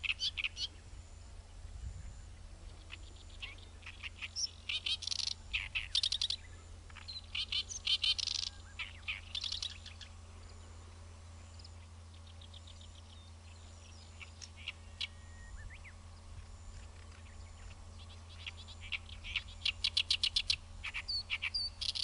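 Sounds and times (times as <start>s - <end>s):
warbler singing harsh chattering song: 0.0s - 0.8s, 2.0s - 22.0s
faint bird calls: 0.0s - 22.0s.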